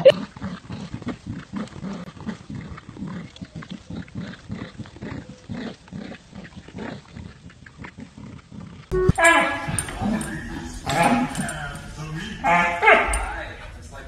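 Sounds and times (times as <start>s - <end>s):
dog play-growling: 0.1s - 14.0s.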